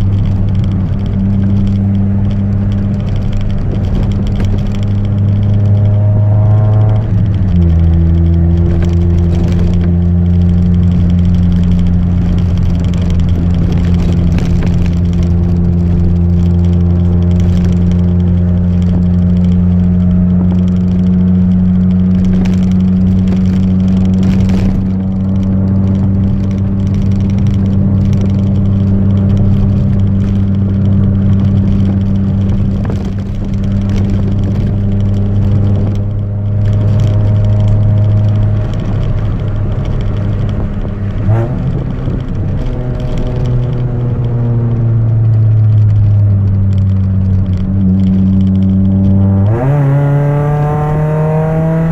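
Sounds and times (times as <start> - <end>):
car engine with loud exhaust: 0.0 - 51.9.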